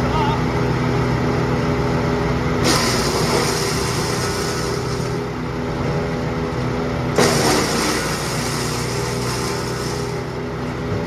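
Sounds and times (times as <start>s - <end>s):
wood chipper engine running: 0.0s - 11.0s.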